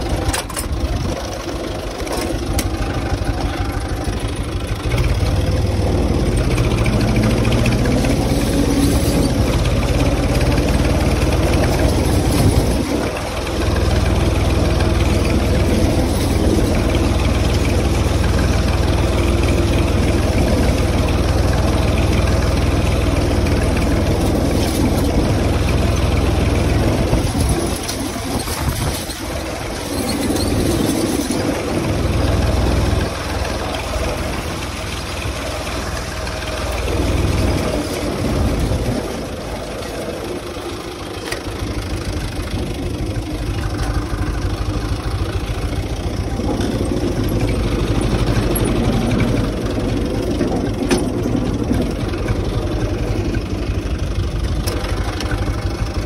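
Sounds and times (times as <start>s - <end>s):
tractor diesel engine rumbling: 0.0s - 56.0s.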